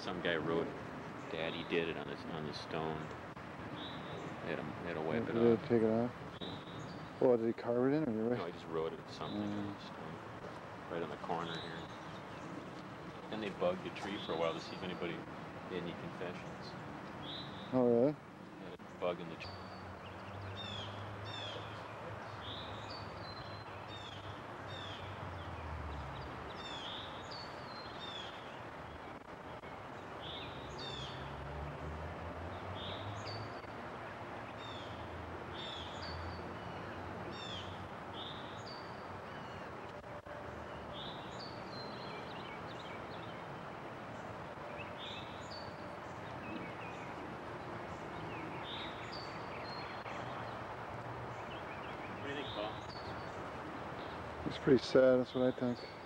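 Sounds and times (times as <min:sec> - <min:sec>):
small songbirds chirping: 0:00.0 - 0:56.0
steady background hiss: 0:00.0 - 0:56.0.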